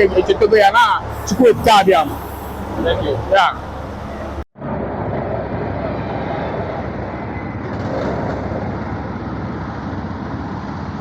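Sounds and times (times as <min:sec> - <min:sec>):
street noise: 0:00.0 - 0:11.0
vehicle engines rumbling: 0:00.0 - 0:11.0.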